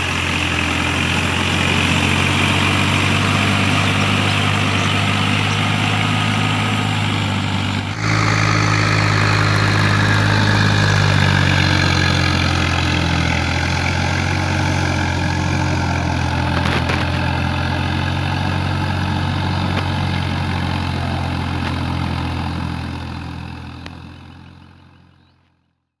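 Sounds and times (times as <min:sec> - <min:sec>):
tractor diesel engine running: 0:00.0 - 0:25.6.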